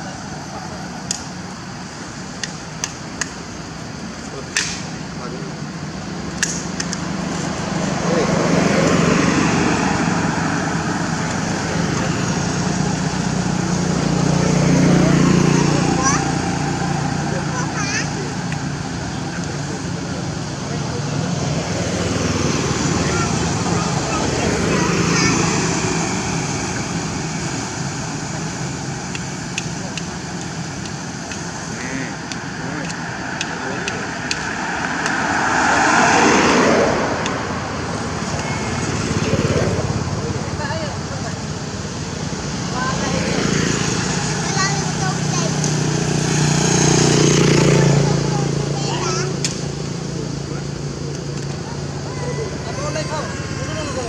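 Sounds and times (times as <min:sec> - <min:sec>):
engine drone: 0:00.0 - 0:54.0
road traffic noise: 0:00.0 - 0:54.0.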